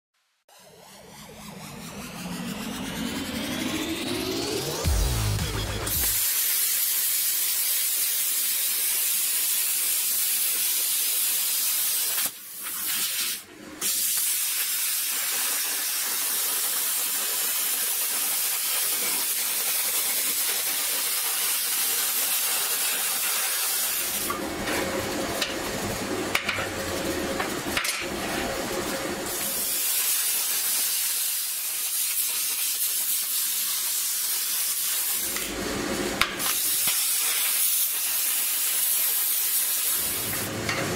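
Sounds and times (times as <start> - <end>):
plasma cutter hissing: 0.5 - 24.4, 29.3 - 35.5, 36.2 - 40.6.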